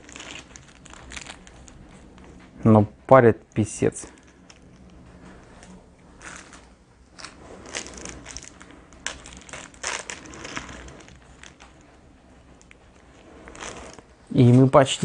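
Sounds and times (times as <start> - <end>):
packaging crinkling and rustling: 0.0 - 2.6, 4.0 - 15.0.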